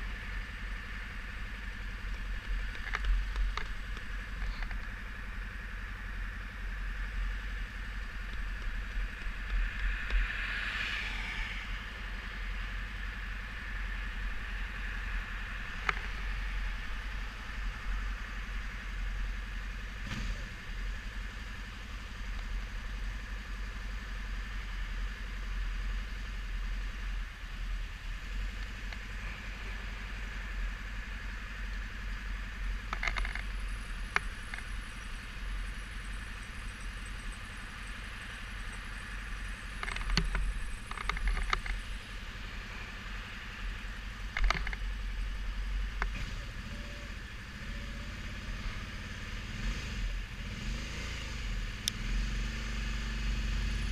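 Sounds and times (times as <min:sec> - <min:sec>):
motorcycle engine idling: 0:00.0 - 0:10.2, 0:12.1 - 0:49.4
passing traffic: 0:00.0 - 0:53.9.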